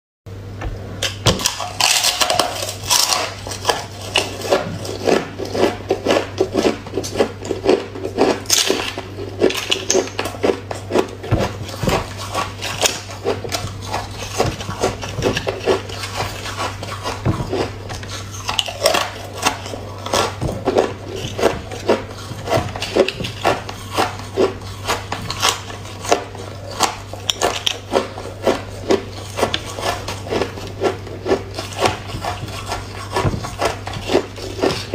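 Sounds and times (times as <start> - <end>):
steady low hum: 0.3 - 34.9
ice crunching as chewed: 1.4 - 34.9.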